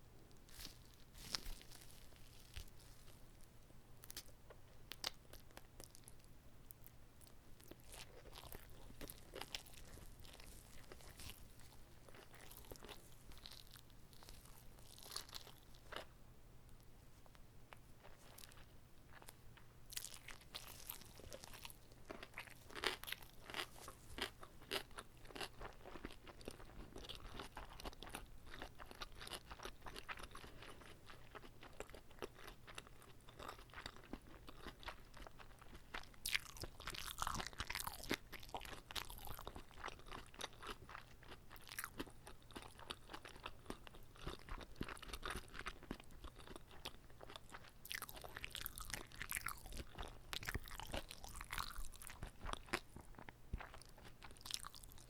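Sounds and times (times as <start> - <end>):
faint low hum: 0.0 - 55.0
chewing crunchy food: 0.2 - 16.2, 17.2 - 55.0.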